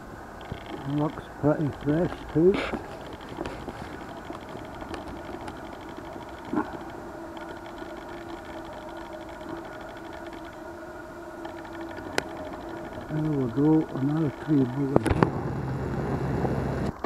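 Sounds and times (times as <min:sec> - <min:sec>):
faint low hum: 0:00.0 - 0:17.0
microphone hiss: 0:00.0 - 0:17.0.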